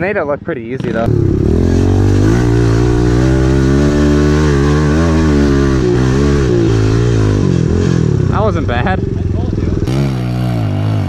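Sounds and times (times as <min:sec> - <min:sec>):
pit bike engine running: 0:00.8 - 0:11.0.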